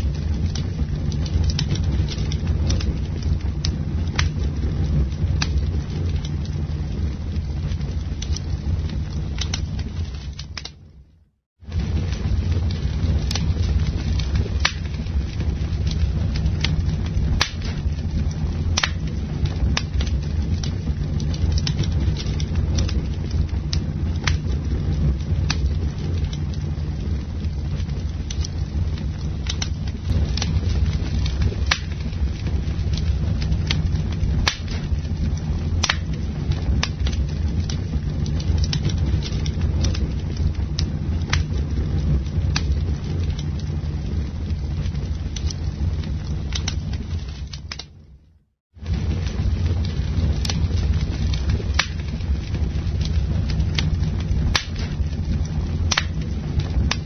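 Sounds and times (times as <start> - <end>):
campfire rumble: 0.0 - 57.0
wood crackling and popping: 0.0 - 57.0.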